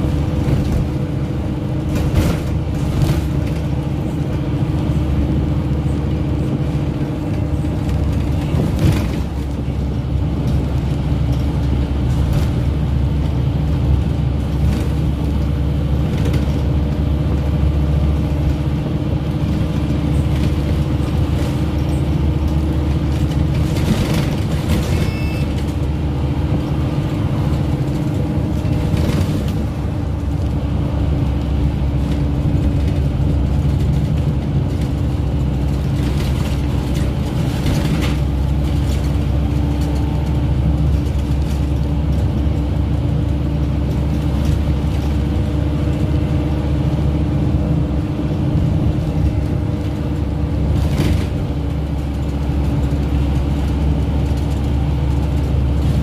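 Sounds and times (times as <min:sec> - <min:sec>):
bus body rattles: 0:00.0 - 0:56.0
bus diesel engine running: 0:00.0 - 0:56.0.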